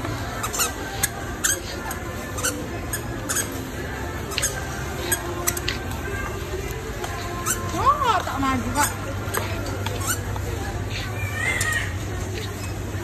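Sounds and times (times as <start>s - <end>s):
steady background hum: 0.0s - 13.0s
plastic basket wheels squeaking: 0.2s - 5.9s, 7.0s - 13.0s.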